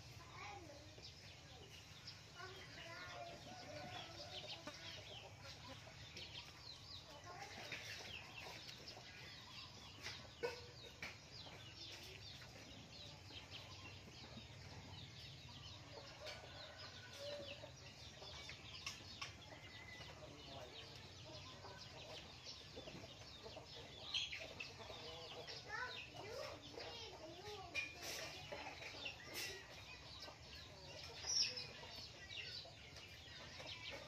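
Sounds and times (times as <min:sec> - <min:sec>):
low clucking bird calls: 0:00.0 - 0:34.0.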